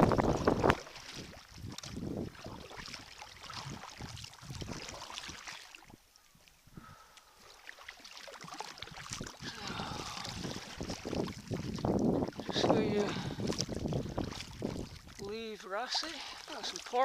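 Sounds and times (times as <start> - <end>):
kayak paddle splashing: 0.0 - 17.0.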